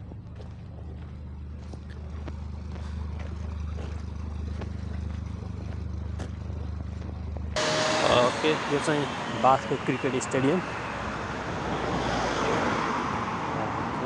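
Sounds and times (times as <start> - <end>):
boat engine throbbing: 0.0 - 12.6.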